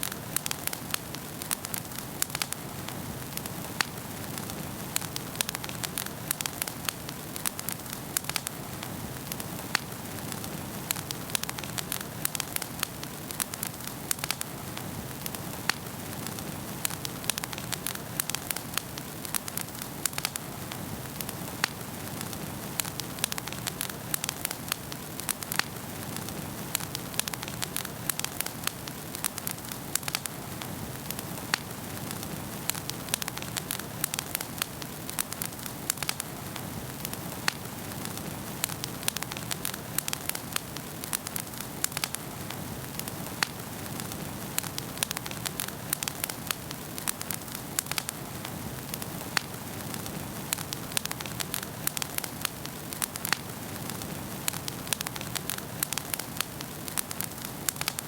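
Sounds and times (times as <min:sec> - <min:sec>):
burning logs crackling: 0:00.0 - 0:58.0.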